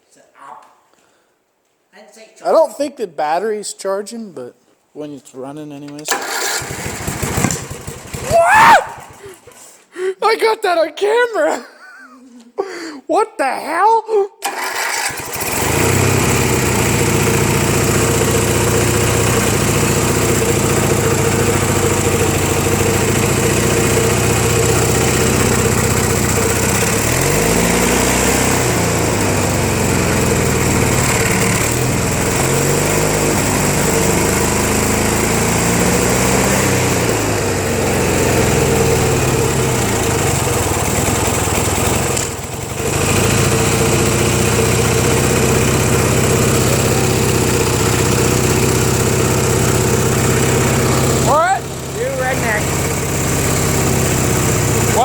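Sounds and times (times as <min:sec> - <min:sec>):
small tractor engine running: 0:06.1 - 0:09.6, 0:14.4 - 0:55.0.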